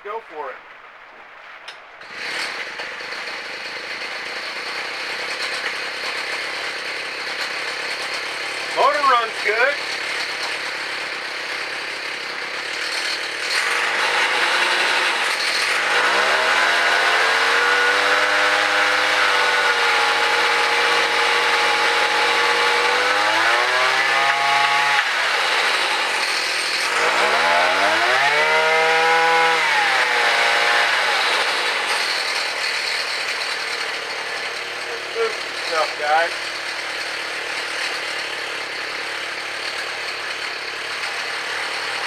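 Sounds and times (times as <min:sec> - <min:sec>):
small gasoline engine revving: 0:02.0 - 0:42.0.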